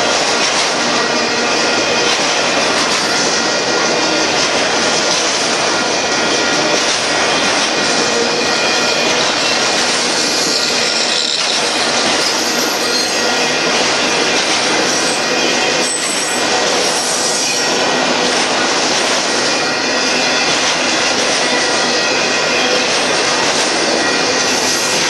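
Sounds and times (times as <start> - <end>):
steel train wheels on rail: 0.0 - 25.0.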